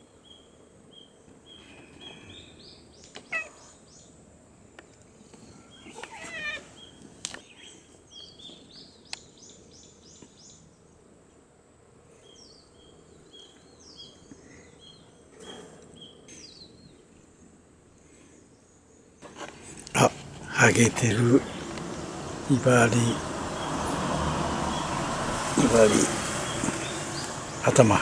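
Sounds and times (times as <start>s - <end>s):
small birds chirping: 0.0s - 11.1s, 12.0s - 28.0s.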